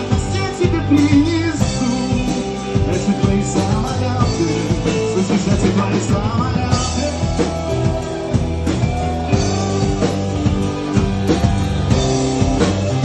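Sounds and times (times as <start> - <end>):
instrumental rock band: 0.0 - 13.0.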